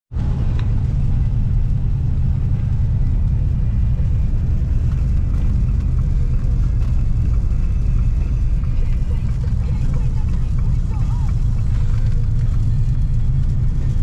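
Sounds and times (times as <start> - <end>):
car road and engine rumble: 0.1 - 14.0.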